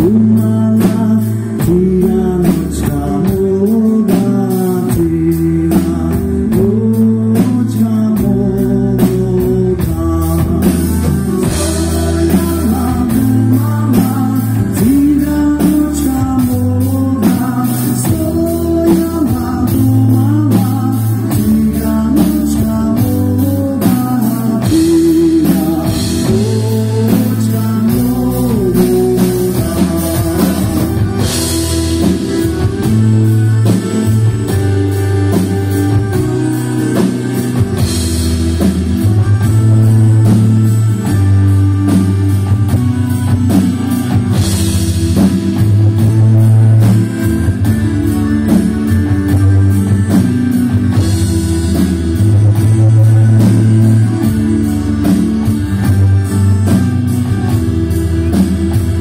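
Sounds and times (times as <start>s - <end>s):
accordion: 0.0s - 59.0s
live folk-pop band: 0.0s - 59.0s.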